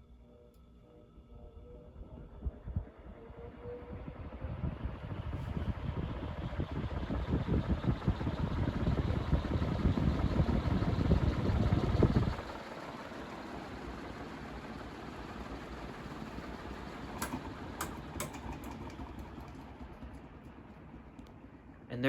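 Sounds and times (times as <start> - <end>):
ceiling fan fluttering rumble: 0.0 - 22.0.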